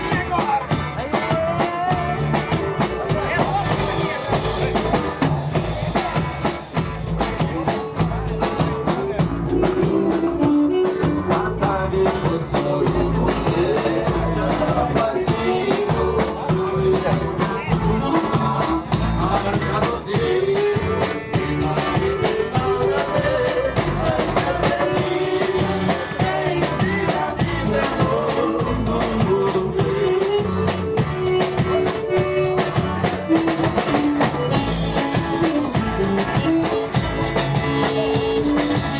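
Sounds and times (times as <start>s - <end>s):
band playing dance music: 0.0s - 38.9s.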